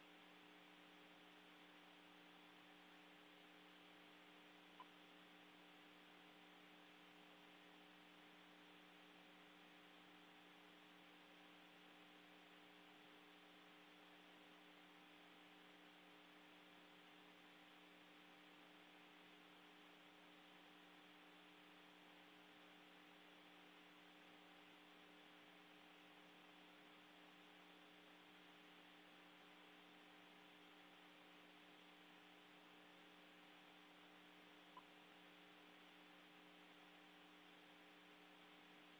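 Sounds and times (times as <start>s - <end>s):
constant hiss: 0.0s - 38.9s
faint electrical hum: 0.0s - 38.9s.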